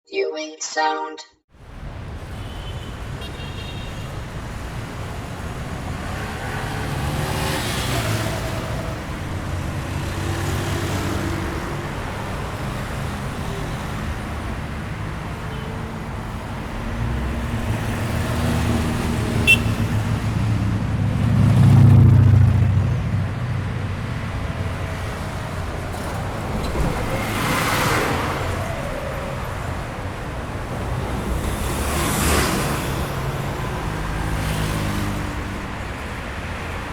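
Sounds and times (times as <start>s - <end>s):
traffic rumble: 1.6s - 36.9s
vehicles passing: 1.6s - 36.9s.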